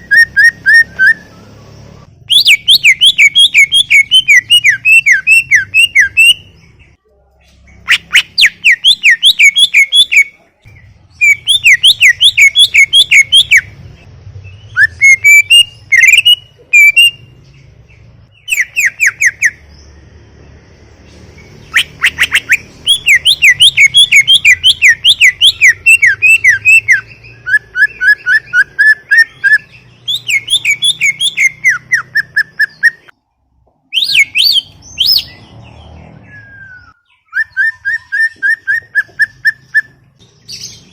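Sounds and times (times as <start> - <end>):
bird singing in rapid chirps: 0.0 - 33.2, 33.9 - 40.9.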